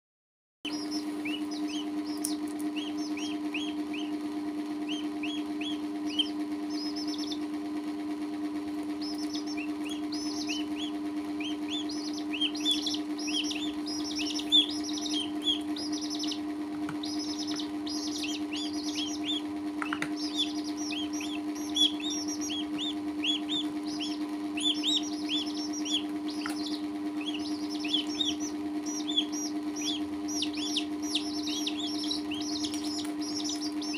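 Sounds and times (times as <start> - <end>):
chicks peeping: 0.7 - 33.9
steady low hum: 0.7 - 33.9.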